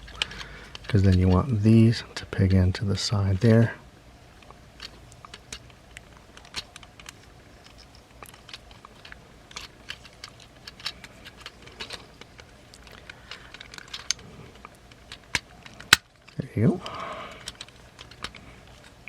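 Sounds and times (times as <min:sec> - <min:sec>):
plastic parts clicking: 0:00.0 - 0:02.3, 0:04.4 - 0:19.0.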